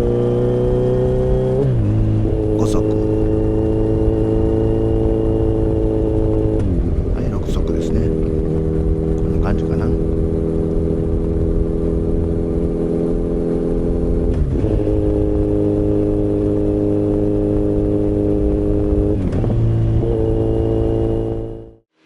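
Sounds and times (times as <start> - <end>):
motorcycle engine cruising: 0.0 - 21.8.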